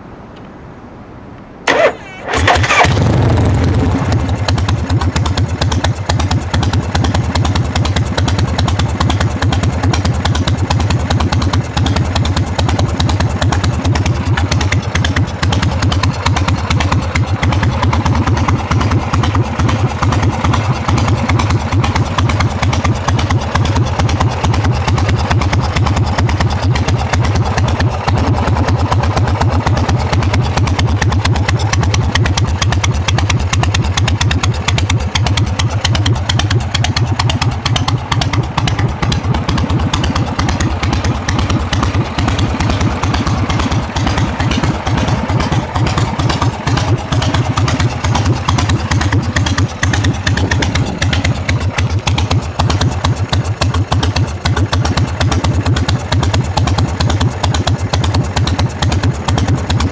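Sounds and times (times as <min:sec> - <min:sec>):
motorcycle engine cranking: 0:01.7 - 0:59.9
motorcycle engine idling: 0:01.7 - 0:59.9.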